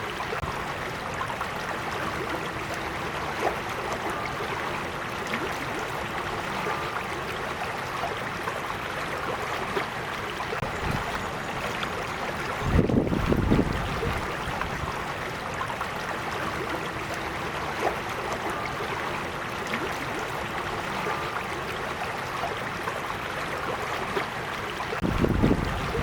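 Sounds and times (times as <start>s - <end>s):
creek babbling over stones: 0.0s - 26.0s.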